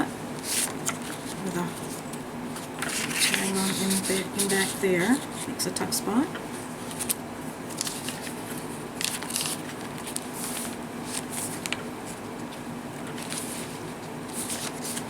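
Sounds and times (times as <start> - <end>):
paper pages rustling: 0.4 - 5.5, 6.8 - 15.0.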